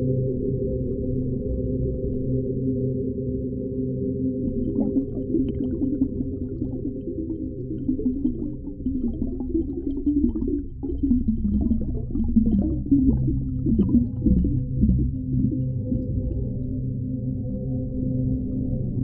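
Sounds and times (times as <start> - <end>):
underwater low rumble: 0.0 - 19.0
wavering gliding low tones: 0.0 - 19.0.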